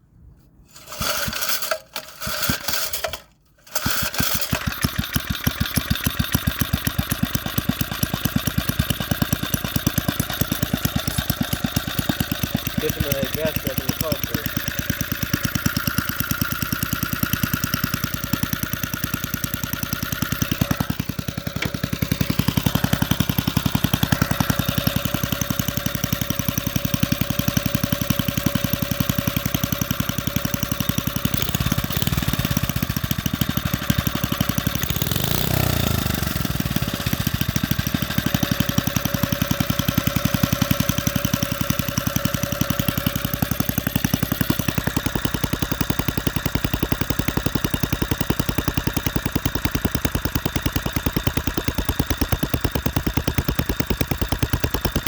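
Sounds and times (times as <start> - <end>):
small engine idling: 0.9 - 55.0.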